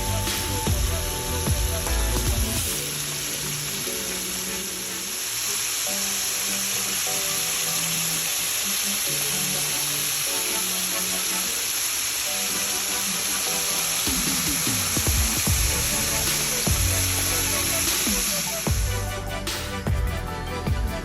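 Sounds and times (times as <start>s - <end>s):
food sizzling in hot oil: 0.0s - 18.9s
background music melody: 0.0s - 21.0s.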